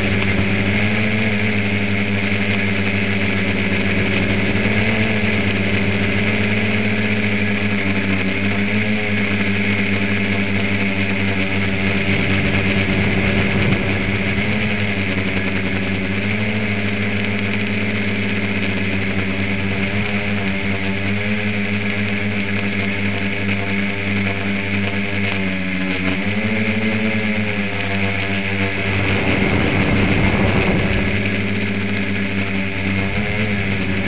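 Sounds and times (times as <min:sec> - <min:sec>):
drone motors and propellers humming: 0:00.0 - 0:34.0.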